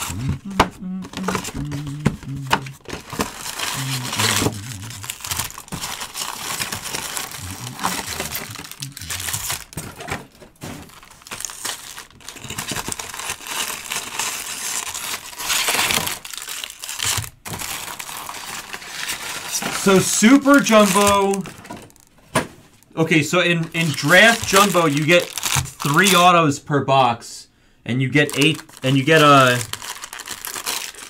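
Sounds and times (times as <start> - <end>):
foil packs crinkling: 0.0 - 22.3, 23.5 - 26.4, 28.1 - 31.0.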